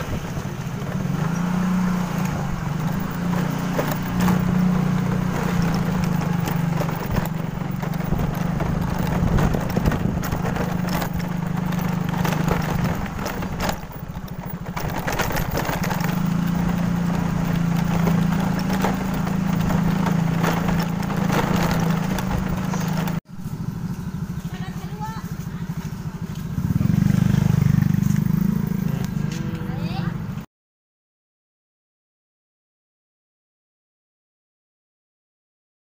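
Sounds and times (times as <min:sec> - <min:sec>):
motor scooter engine running: 0:00.0 - 0:30.4.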